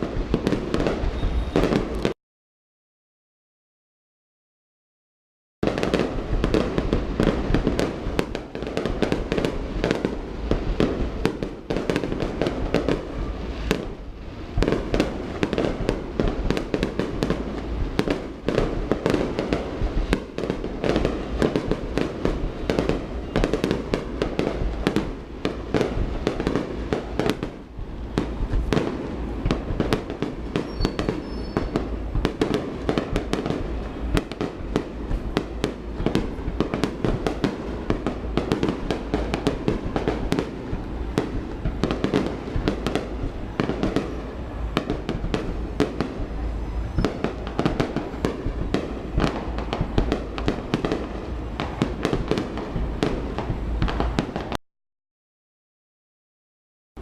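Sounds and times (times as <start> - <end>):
firework bursts and crackles: 0.0 - 2.2, 5.6 - 54.6
steady low boom: 5.6 - 54.3.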